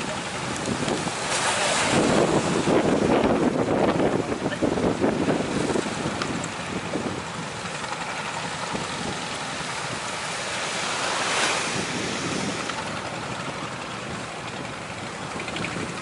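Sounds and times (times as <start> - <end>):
surf breaking and washing: 0.0 - 16.0
wind buffeting microphone: 0.0 - 16.0.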